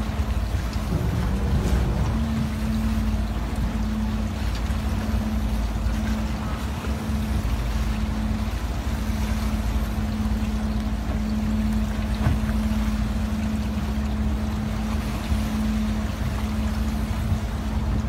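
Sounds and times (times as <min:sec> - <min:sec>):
boat engine humming: 0:00.0 - 0:18.0
sea noise: 0:00.0 - 0:18.0
wind: 0:00.0 - 0:18.0.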